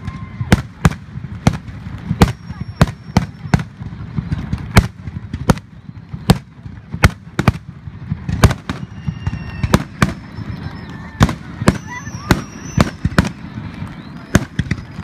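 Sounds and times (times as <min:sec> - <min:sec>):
firework bangs: 0:00.0 - 0:15.0.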